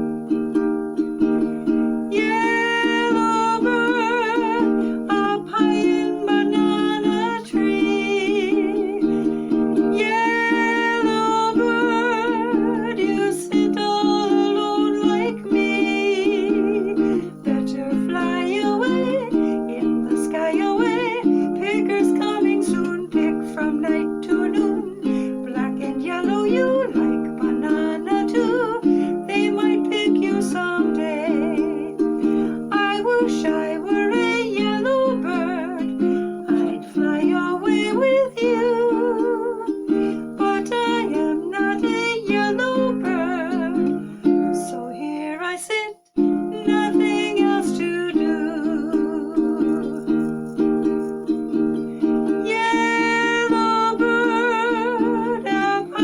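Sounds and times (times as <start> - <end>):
wavering vibrato melody: 0.0 - 45.0, 46.2 - 56.0.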